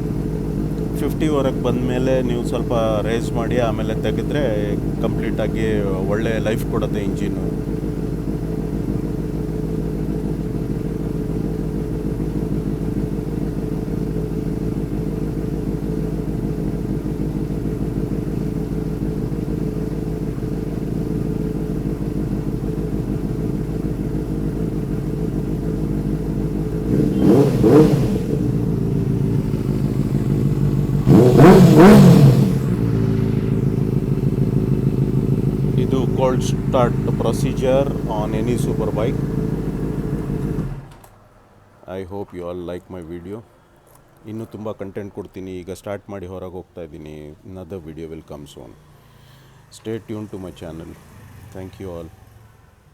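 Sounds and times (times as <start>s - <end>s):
engine revving: 0.0s - 41.2s, 48.4s - 52.9s
motorcycle engine idling: 0.0s - 41.8s, 47.1s - 52.9s.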